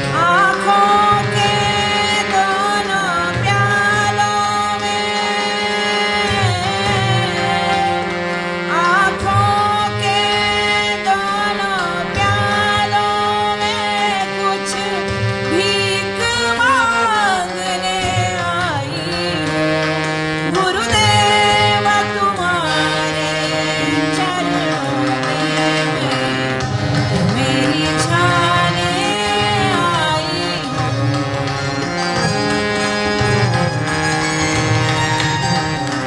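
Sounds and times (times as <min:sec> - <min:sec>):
woman singing: 0:00.0 - 0:19.9, 0:20.5 - 0:31.3
harmonium tones: 0:00.0 - 0:36.0.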